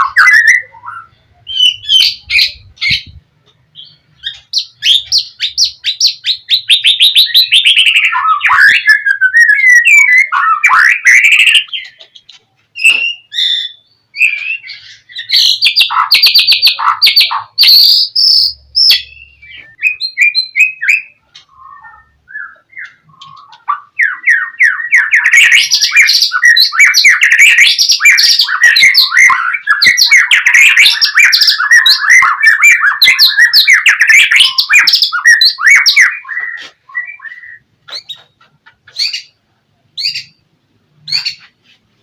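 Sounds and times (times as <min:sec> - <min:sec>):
songbird singing: 0:00.0 - 0:41.8.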